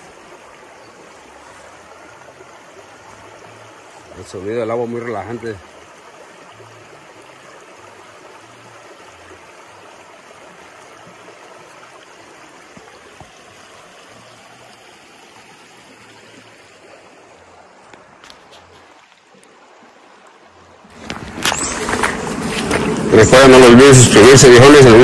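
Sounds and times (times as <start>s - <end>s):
river babbling over stones: 0.0s - 25.0s.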